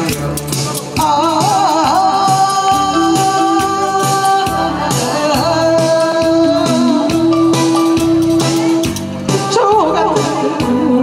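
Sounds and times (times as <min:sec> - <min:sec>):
amplified band accompaniment: 0:00.0 - 0:11.0
woman singing into a microphone: 0:01.0 - 0:11.0.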